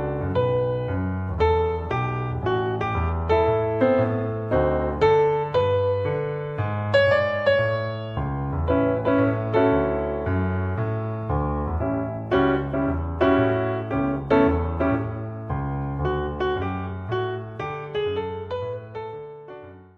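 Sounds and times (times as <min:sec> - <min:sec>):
repeating low piano bass line: 0:00.0 - 0:19.9
solo piano melody: 0:00.0 - 0:19.9.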